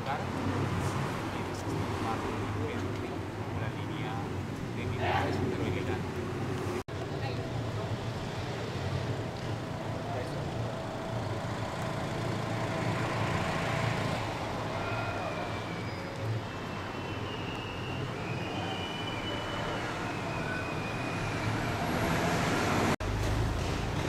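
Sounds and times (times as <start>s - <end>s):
traffic engine rumble: 0.0s - 24.0s.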